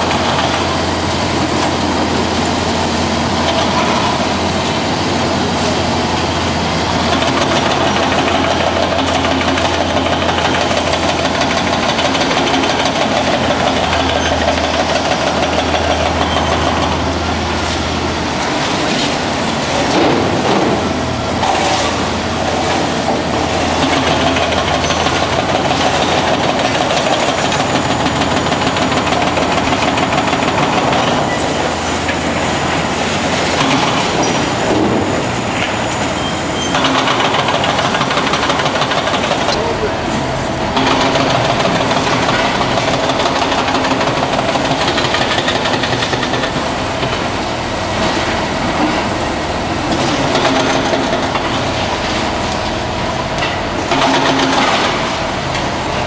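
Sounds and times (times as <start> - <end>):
excavator engine drone: 0.0 - 56.0.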